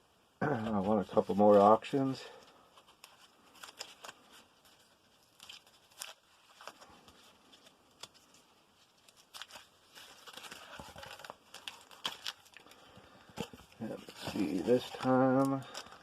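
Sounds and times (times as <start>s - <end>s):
package crinkling and tearing: 2.8s - 16.0s.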